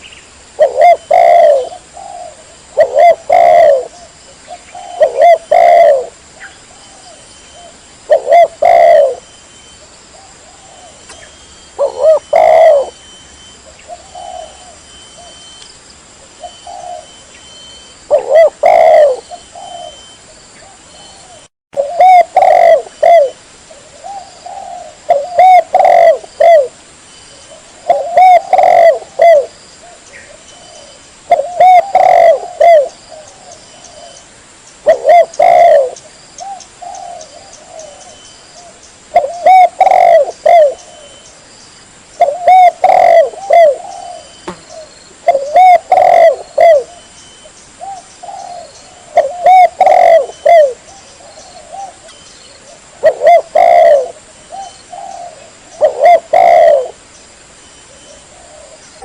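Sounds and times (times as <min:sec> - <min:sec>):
dove cooing: 0:00.6 - 0:09.3, 0:10.1 - 0:15.5, 0:16.2 - 0:26.8, 0:27.4 - 0:34.2, 0:34.8 - 0:41.2, 0:42.2 - 0:57.0, 0:57.9 - 0:59.0.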